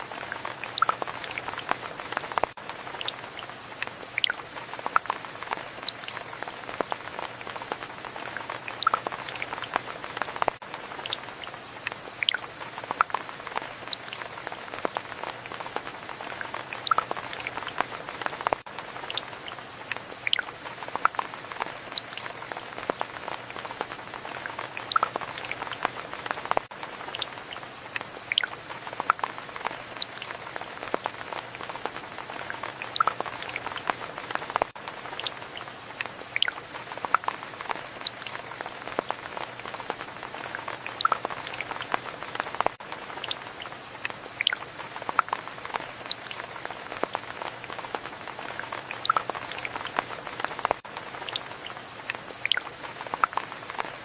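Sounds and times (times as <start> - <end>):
rain falling steadily: 0.0 - 54.0
sharp close raindrops: 0.0 - 54.0.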